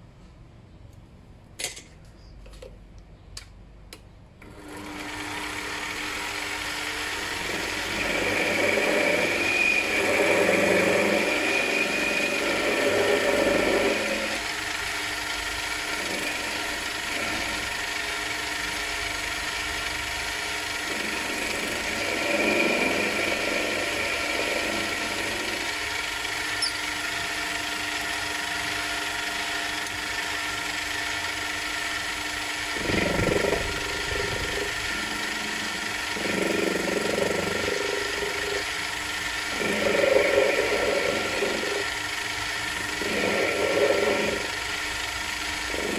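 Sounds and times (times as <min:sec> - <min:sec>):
lathe motor whine: 0:04.4 - 0:45.9
cutting tool cutting steel: 0:04.8 - 0:28.6, 0:29.4 - 0:45.9.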